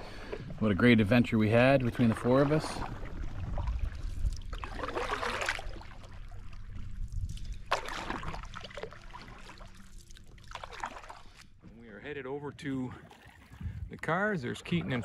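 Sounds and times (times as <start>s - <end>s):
paddle splashing water: 0.0s - 11.9s, 12.6s - 15.0s
low steady rumble: 0.0s - 13.0s.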